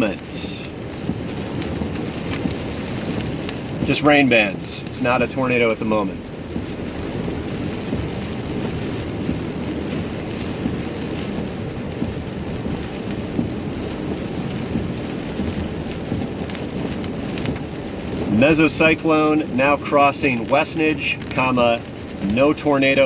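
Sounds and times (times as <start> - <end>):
heavy rain on a vehicle: 0.0 - 23.0.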